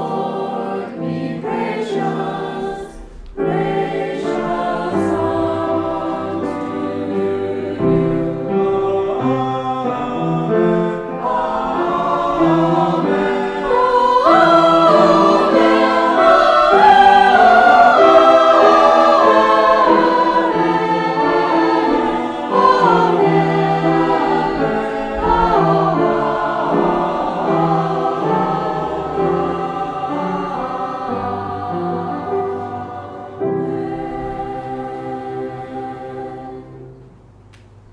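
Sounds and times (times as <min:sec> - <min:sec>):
choir singing: 0:00.0 - 0:37.4.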